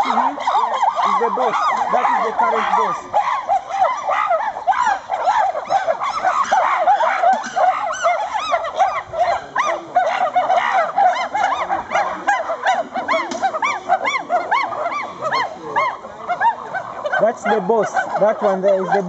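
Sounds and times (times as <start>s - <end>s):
chorus of animal hoots: 0.0s - 19.0s.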